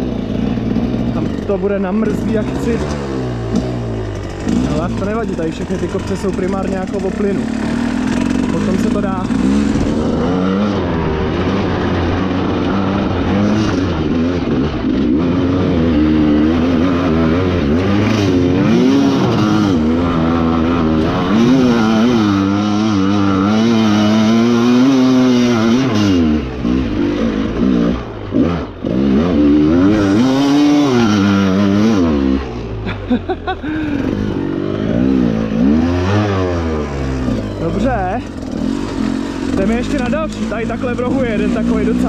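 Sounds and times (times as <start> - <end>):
motorcycle engine revving hard: 0.0 - 42.0.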